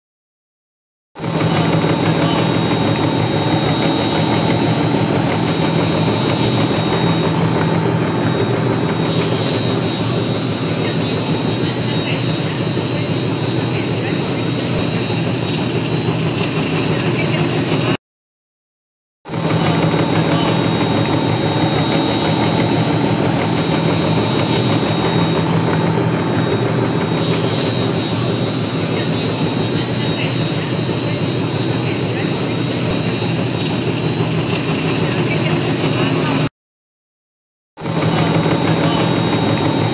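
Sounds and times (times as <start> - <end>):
factory machinery drone: 1.2 - 18.0, 19.3 - 36.5, 37.8 - 39.9
motor hum: 1.2 - 18.0, 19.3 - 36.5, 37.8 - 39.9
thin high whine: 1.2 - 18.0, 19.3 - 36.5.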